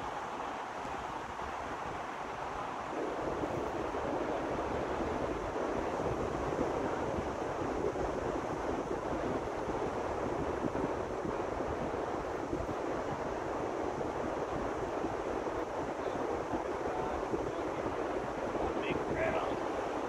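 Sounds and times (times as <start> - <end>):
surf washing: 0.0 - 20.0
wind rumbling on microphone: 0.0 - 20.0.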